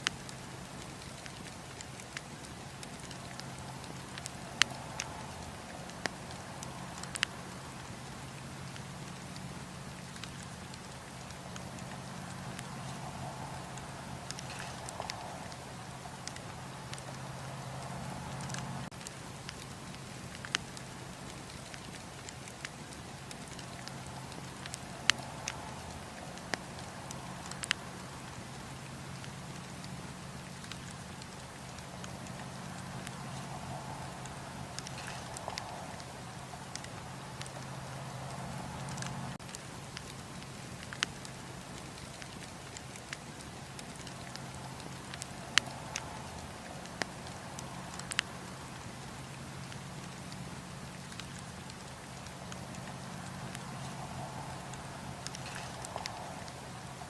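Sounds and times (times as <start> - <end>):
burning wood popping and snapping: 0.0 - 57.0
low fire rumble: 0.0 - 57.0
low rush of flame: 0.7 - 57.0.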